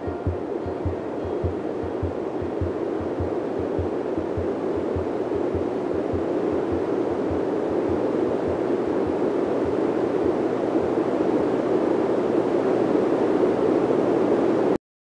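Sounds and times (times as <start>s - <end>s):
wind and water rushing: 0.0s - 14.8s.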